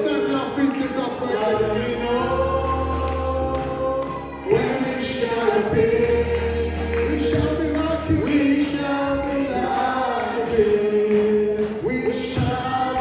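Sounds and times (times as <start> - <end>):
group singing gospel: 0.0 - 13.0
low bass accompaniment: 0.0 - 13.0.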